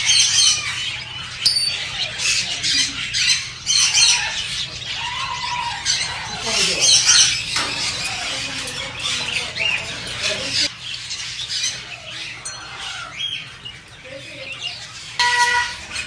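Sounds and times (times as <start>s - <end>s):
parrots squawking: 0.0s - 16.0s.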